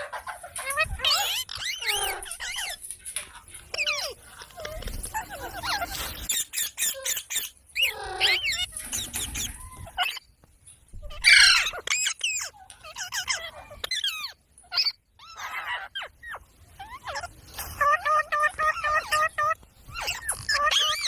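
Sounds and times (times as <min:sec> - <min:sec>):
parrots chirping and squawking: 0:00.0 - 0:21.0.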